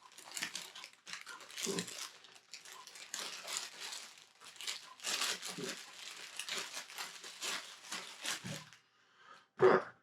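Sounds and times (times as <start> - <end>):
plastic crinkling: 0.0 - 8.8.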